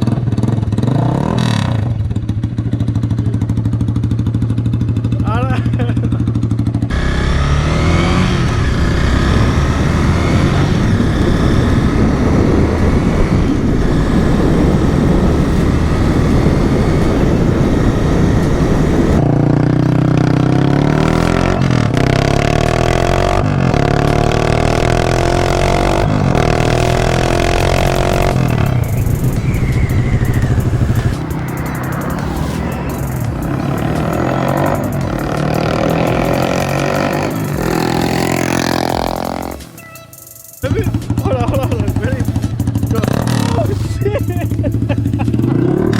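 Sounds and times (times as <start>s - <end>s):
loud motorcycle engine running: 0.0s - 45.9s.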